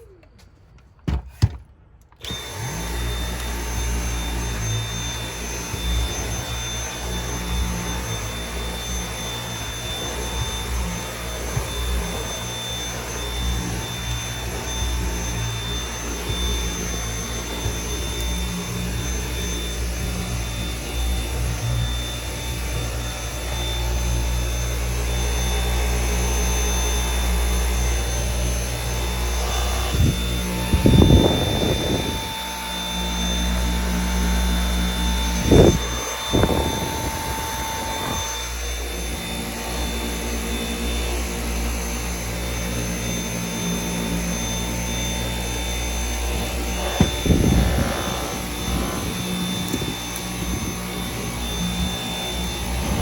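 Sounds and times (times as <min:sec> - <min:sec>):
vacuum cleaner motor whine: 0:02.1 - 0:53.0.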